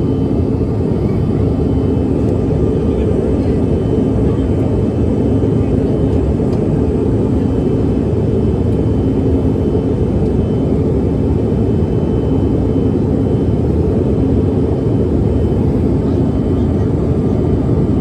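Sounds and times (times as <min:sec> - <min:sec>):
jet engine rumble in cabin: 0:00.0 - 0:18.0.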